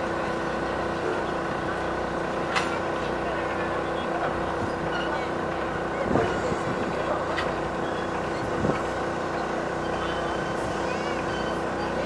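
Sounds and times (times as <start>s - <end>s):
locomotive mechanical hum: 0.0s - 12.0s
train clanks: 0.9s - 12.0s.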